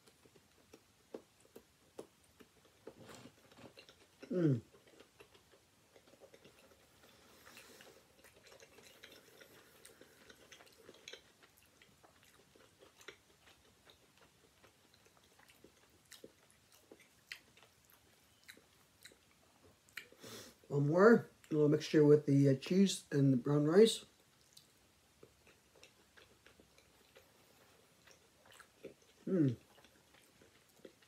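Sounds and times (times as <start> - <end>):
soft mouth clicks and smacks: 0.0 - 14.0, 14.6 - 20.2, 24.4 - 31.0
chewing with mouth closed: 0.0 - 20.2, 24.1 - 31.0.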